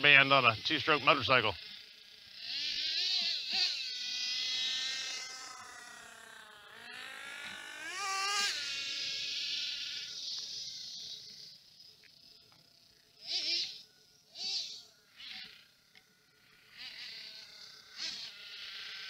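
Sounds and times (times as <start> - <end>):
small nitro engine whining: 0.0 - 19.0.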